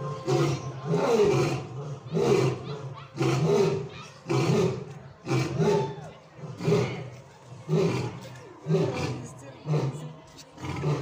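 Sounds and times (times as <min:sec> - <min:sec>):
lion roaring: 0:00.0 - 0:11.0.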